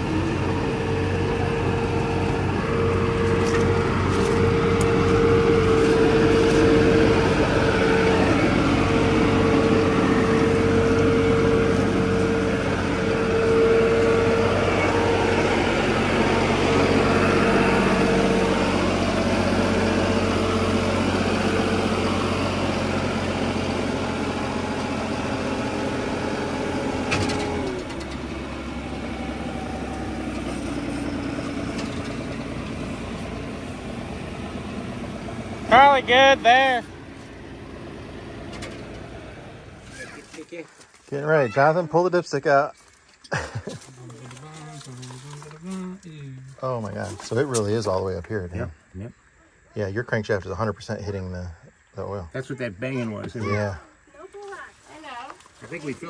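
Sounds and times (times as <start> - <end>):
diesel engine running: 0.0 - 49.6.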